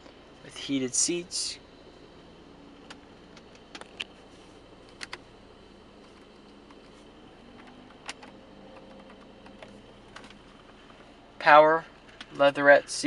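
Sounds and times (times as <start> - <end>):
faint car cabin hum: 0.0 - 13.0.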